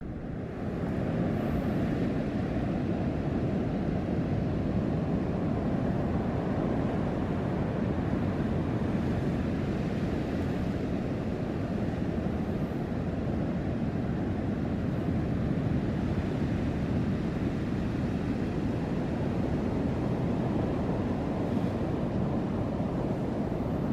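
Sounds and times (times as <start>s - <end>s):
waves rushing through rocky channel: 3.1s - 23.9s.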